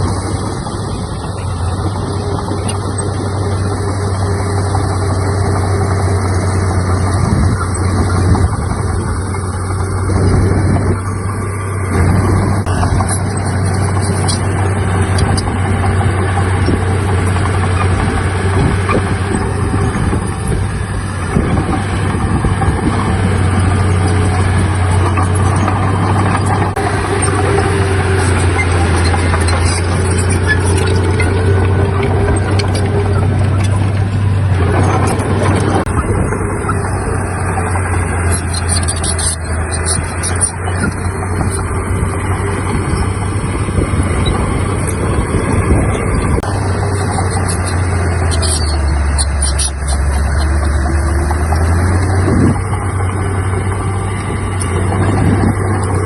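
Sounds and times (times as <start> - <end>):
diesel machinery running: 0.0 - 56.0
metal knocks and clanks: 1.6 - 56.0.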